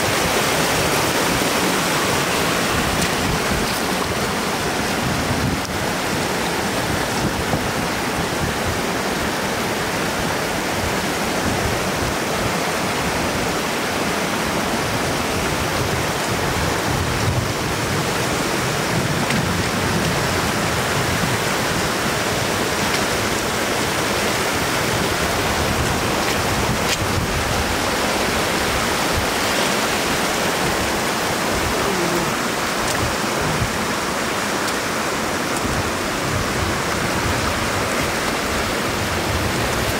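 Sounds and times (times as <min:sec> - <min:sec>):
floodwater rushing and splashing: 0:00.0 - 0:39.9.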